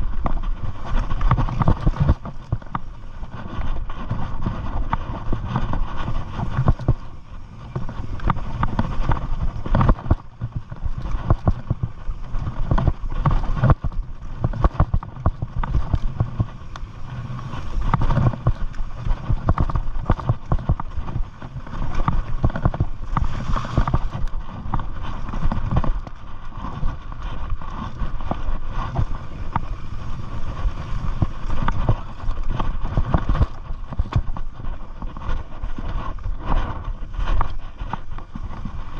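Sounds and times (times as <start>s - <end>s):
bike rattling and knocking: 0.0s - 38.9s.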